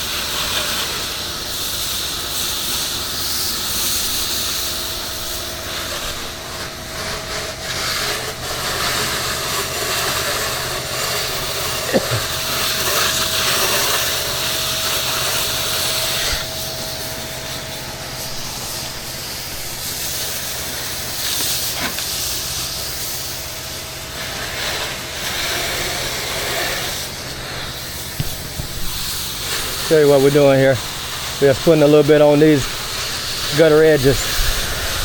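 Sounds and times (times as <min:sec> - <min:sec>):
pressure washer spray hissing: 0:00.0 - 0:35.0
engine droning: 0:04.8 - 0:35.0.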